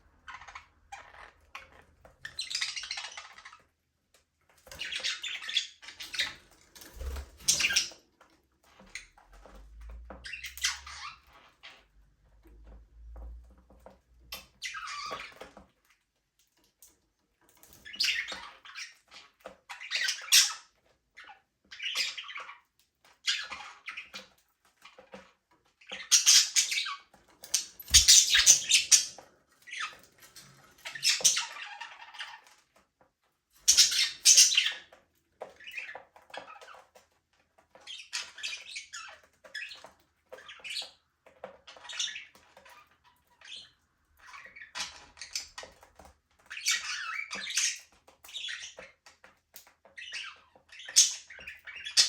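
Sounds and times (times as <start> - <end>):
budgerigars chirping and chattering: 0.1 - 3.8, 4.6 - 8.0, 8.6 - 11.9, 14.3 - 15.6, 17.6 - 32.7, 33.6 - 52.0.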